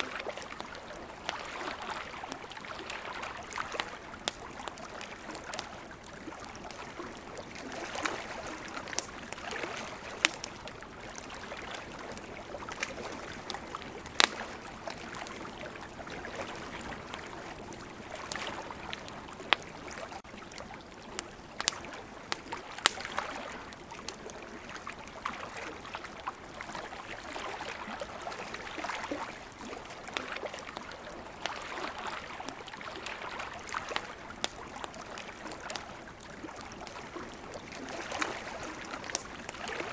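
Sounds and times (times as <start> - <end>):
campfire crackling and popping: 0.0 - 39.9
sea waves: 0.0 - 39.9.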